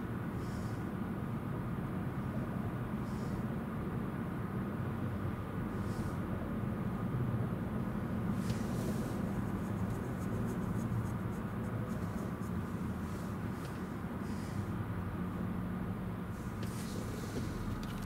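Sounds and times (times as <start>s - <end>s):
road traffic rumble: 0.0s - 18.0s
vehicle engines idling: 0.0s - 18.0s.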